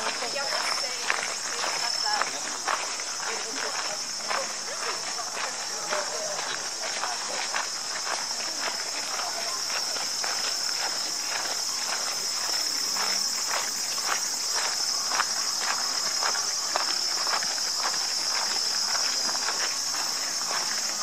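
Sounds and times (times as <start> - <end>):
footsteps on gravel: 0.0 - 21.0
insects chirping chorus: 0.0 - 21.0.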